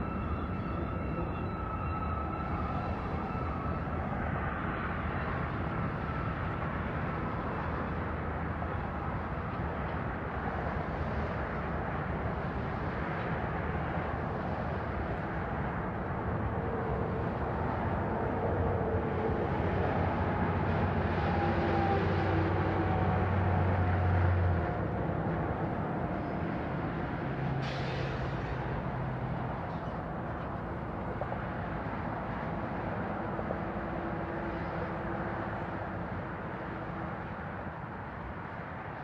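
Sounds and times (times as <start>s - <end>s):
diesel locomotive engine: 0.0s - 39.0s.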